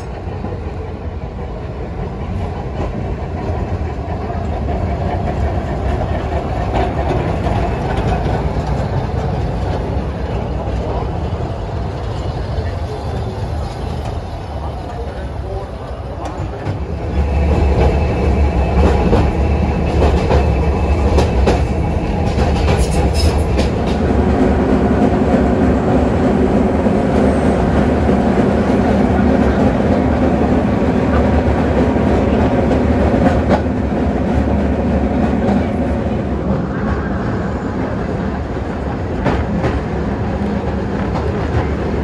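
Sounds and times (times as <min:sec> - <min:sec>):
tram motor hum and wheel noise: 0:00.0 - 0:42.0.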